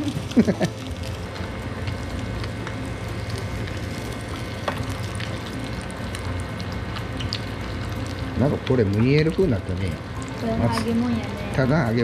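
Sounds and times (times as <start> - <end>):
hot oil sizzling and bubbling: 0.0 - 12.0.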